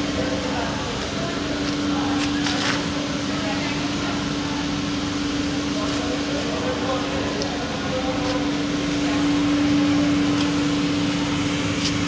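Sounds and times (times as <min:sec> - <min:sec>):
conveyor machine hum: 0:00.0 - 0:12.0.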